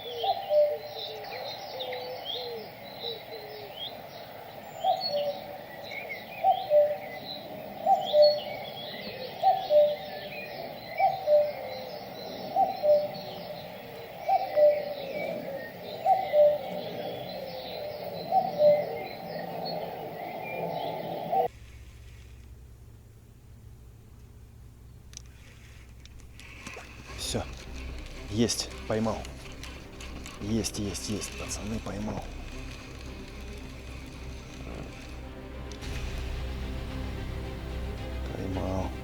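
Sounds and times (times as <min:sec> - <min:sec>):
small birds chirping: 0:00.0 - 0:21.5, 0:23.3 - 0:39.0.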